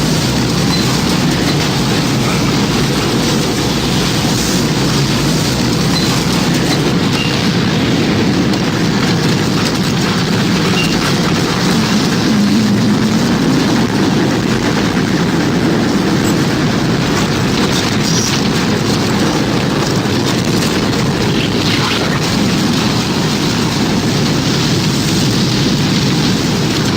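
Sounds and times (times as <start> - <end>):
tornado wind roaring: 0.0 - 26.9.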